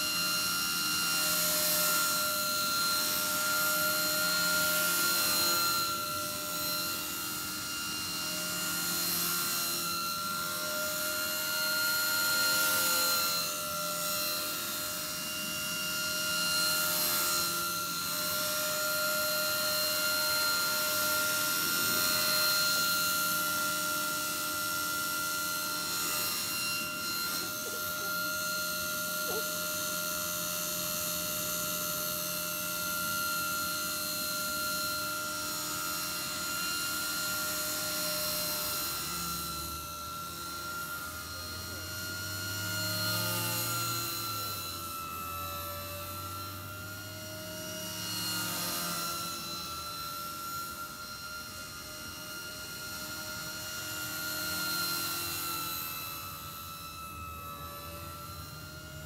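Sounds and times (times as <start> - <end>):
rc helicopter motor whine: 0.0 - 59.0.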